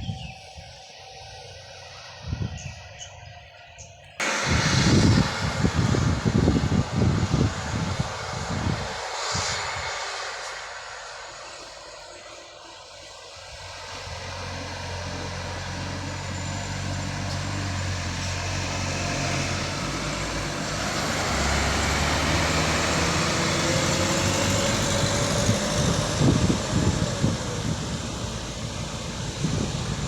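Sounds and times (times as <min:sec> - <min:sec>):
heavy vehicle engine passing: 0:04.2 - 0:30.0.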